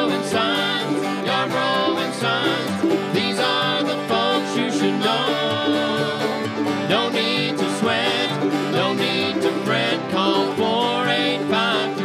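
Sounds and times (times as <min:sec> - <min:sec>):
country music with plucked strings: 0:00.0 - 0:12.0.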